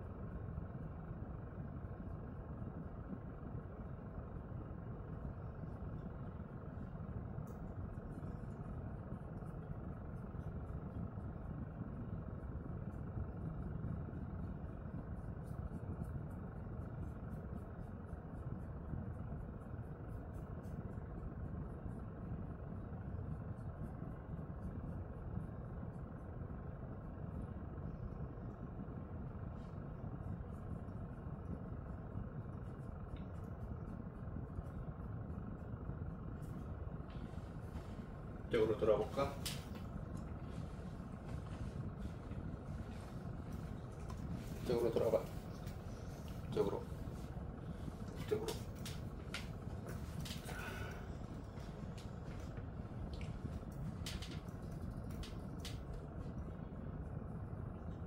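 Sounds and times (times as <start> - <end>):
steady low background noise: 0.0 - 58.0.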